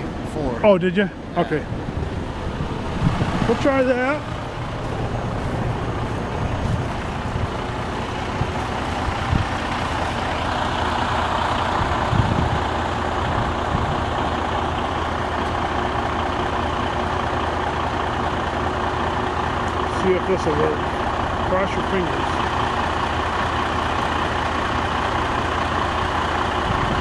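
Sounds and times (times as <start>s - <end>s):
heavy vehicle engine running: 0.0s - 27.0s.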